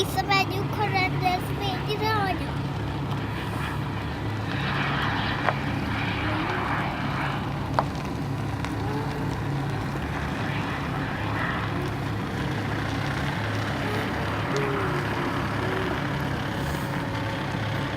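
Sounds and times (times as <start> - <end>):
low engine drone: 0.0 - 17.9.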